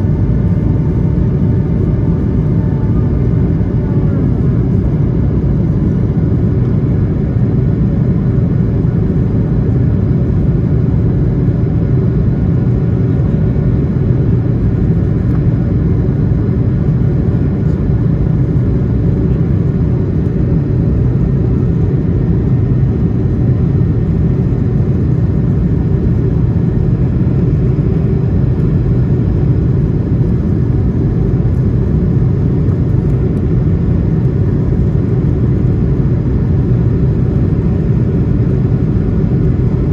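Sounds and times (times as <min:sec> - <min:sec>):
airplane cabin rumble: 0:00.0 - 0:39.9
faint steady whines: 0:00.0 - 0:39.9.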